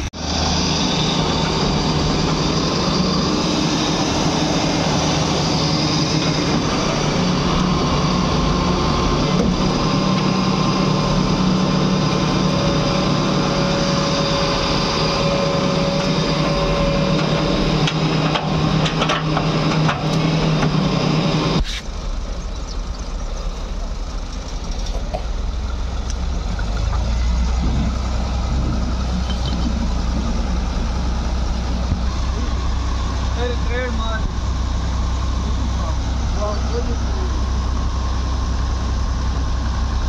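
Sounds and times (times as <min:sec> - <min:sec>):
diesel engine running under load: 0:00.0 - 0:40.0
hydraulic whine: 0:00.0 - 0:40.0.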